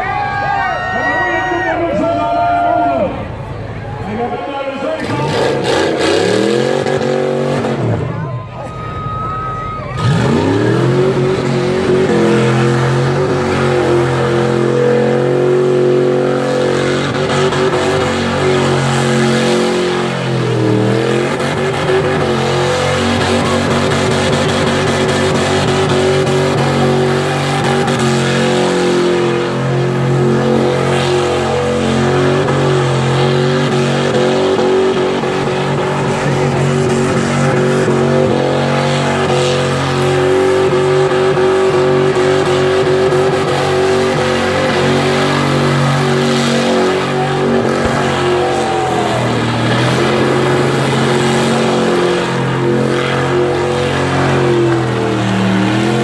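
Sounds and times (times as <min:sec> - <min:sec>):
car engine revving high: 0:01.4 - 0:56.0.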